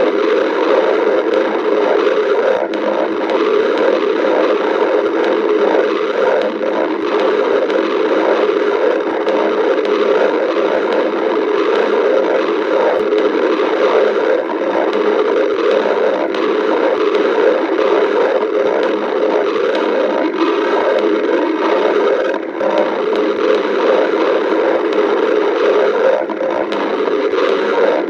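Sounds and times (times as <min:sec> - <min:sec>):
stomach growling: 0:00.0 - 0:28.0.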